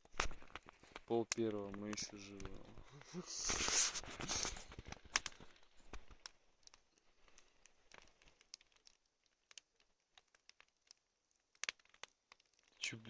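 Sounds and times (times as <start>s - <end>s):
faint irregular clicks and crackles: 0.0s - 13.0s.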